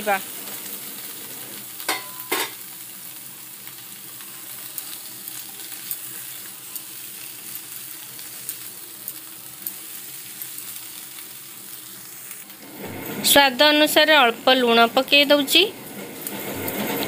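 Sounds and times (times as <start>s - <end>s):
vegetables frying and sizzling: 0.0s - 17.0s.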